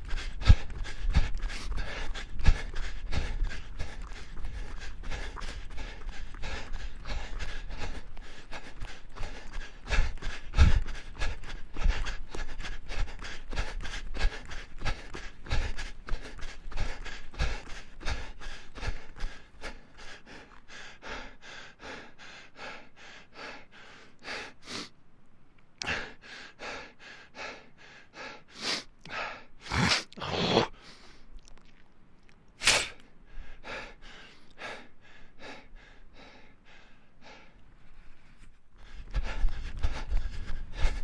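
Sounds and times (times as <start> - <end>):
person panting: 0.0 - 24.9, 25.8 - 31.3, 32.7 - 41.0.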